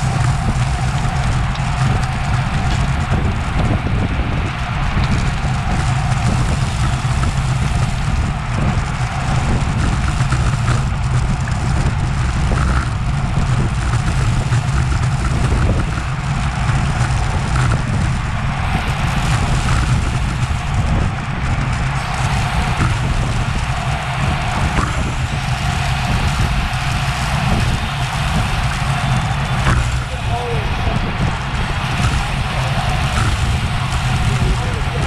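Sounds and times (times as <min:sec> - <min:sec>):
road and tyre hiss: 0:00.0 - 0:35.0
wind on camera microphone: 0:00.0 - 0:35.0.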